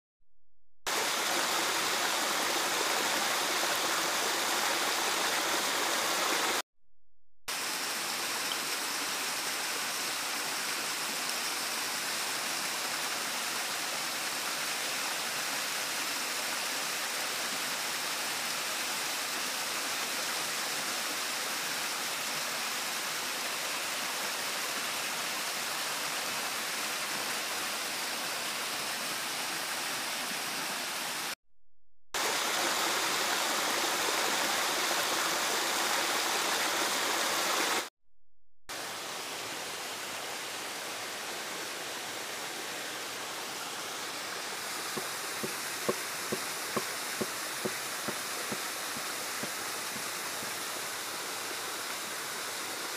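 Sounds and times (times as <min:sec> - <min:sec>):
waterfall rushing over rocks: 0:00.9 - 0:06.6, 0:07.5 - 0:31.4, 0:32.2 - 0:37.9, 0:38.7 - 0:52.9.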